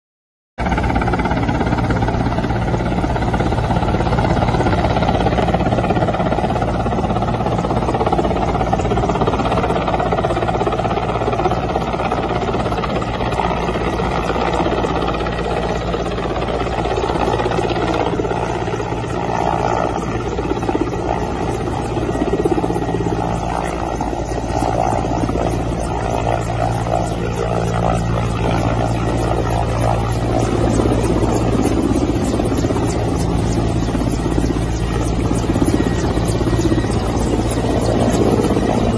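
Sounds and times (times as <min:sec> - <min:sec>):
helicopter rotor and turbine drone: 0:00.6 - 0:38.9.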